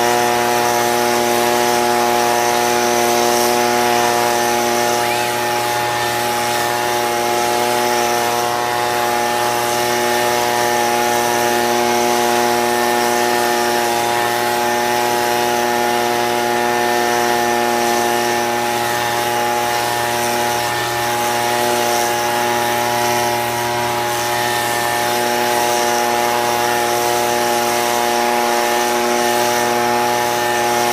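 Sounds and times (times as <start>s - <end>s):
leaf blower engine running: 0.0s - 30.9s.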